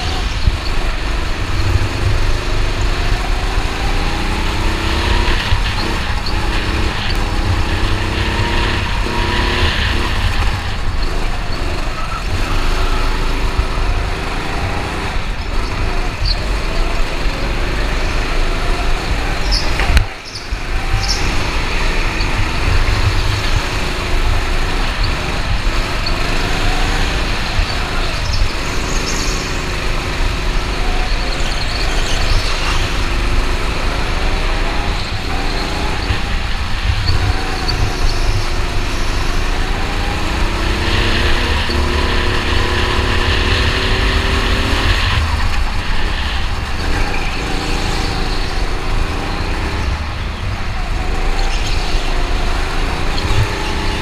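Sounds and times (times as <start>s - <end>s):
go-kart engine revving: 0.0s - 54.0s
wind rumble on microphone: 0.0s - 54.0s.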